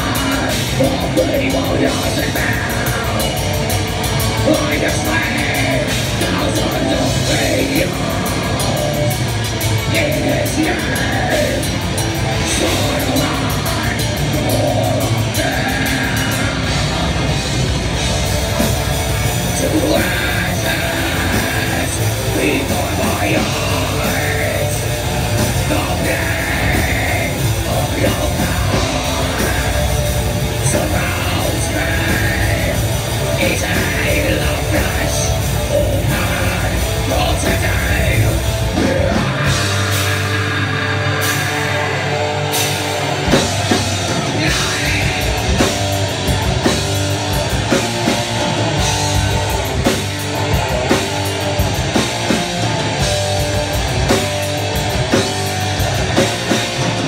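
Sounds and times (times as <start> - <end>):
harsh shouted vocals: 0.0 - 57.0
heavy metal band playing live: 0.0 - 57.0.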